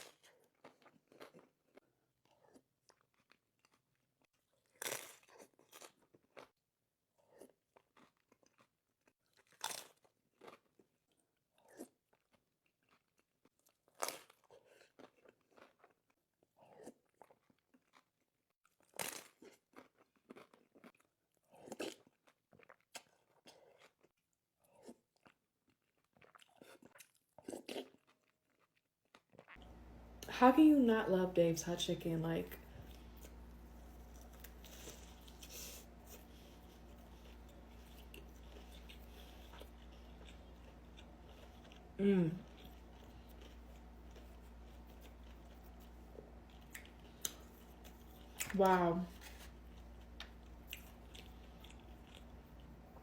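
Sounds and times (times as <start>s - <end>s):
crunchy food chewing: 0.0s - 30.3s, 32.6s - 53.0s.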